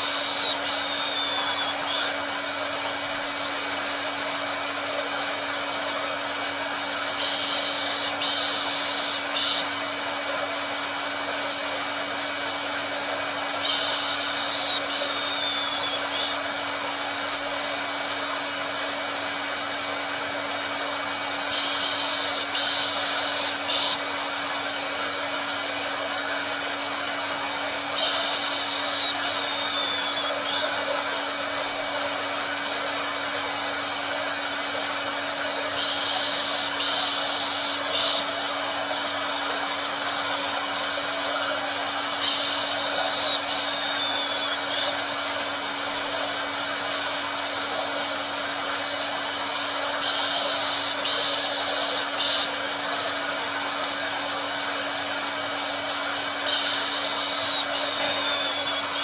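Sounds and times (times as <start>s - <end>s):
louder higher-pitched hiss: 0.0s - 4.4s, 5.7s - 10.0s, 12.8s - 18.4s, 20.6s - 48.3s, 48.9s - 59.0s
hair dryer running: 0.0s - 59.0s.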